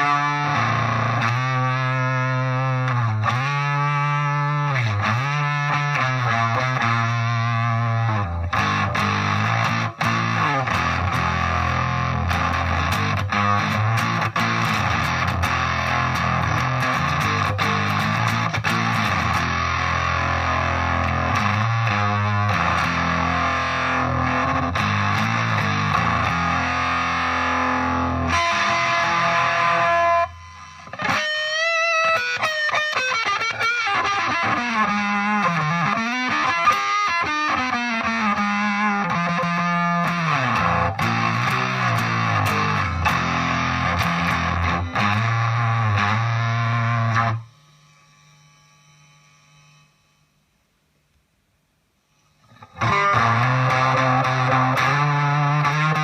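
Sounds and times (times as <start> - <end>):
distorted fuzz electric guitar: 0.0 - 50.3, 52.0 - 56.0.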